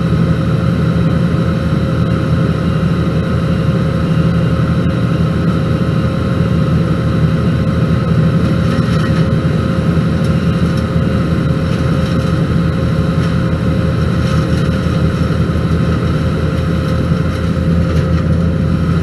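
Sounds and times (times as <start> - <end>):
wheel loader diesel engine running: 0.0 - 19.0.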